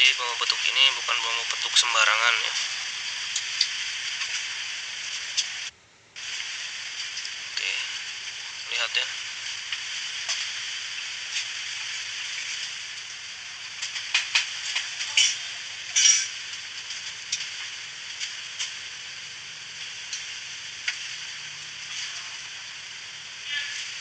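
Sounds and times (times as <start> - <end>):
crackles and clicks: 0.0 - 24.0
outdoor hiss: 0.0 - 24.0.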